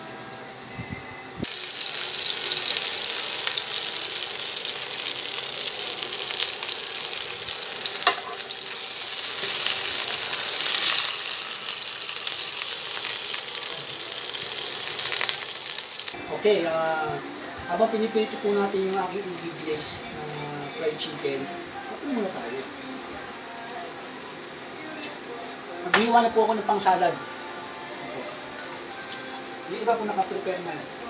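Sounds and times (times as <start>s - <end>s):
chicken sizzling in oil: 1.4s - 31.0s.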